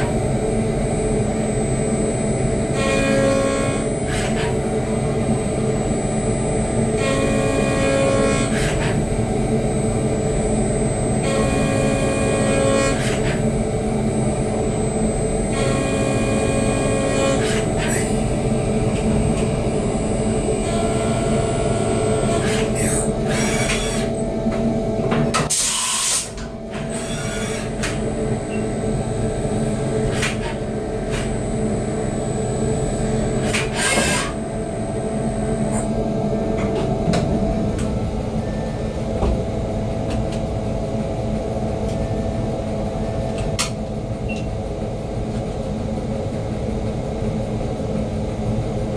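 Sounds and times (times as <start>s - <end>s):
milling machine hum: 0.0s - 48.9s.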